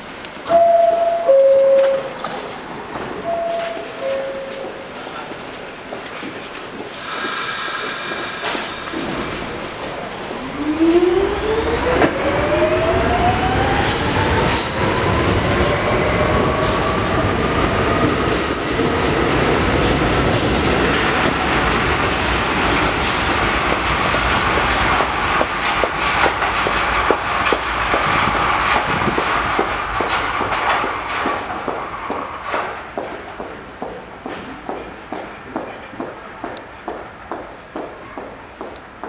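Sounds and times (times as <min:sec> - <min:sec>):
subway train motors whining: 0:00.0 - 0:39.0.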